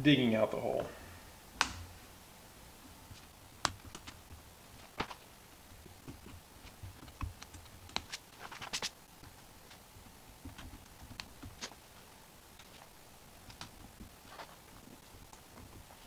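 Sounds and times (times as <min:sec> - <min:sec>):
small clicks and scratches: 0:03.1 - 0:16.0.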